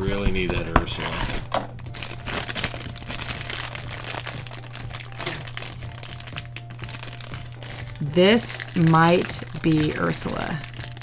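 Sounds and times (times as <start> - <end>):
foil bag crinkling: 1.0 - 11.0.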